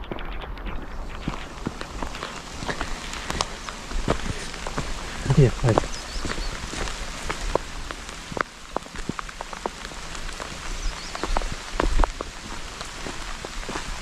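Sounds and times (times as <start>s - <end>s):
heavy rain falling: 0.0s - 14.0s
raindrops striking close by: 0.0s - 14.0s.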